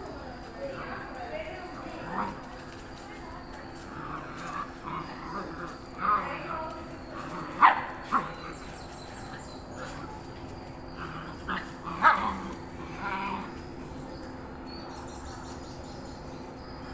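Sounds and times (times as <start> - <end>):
puppies barking and yelping: 0.7 - 16.9.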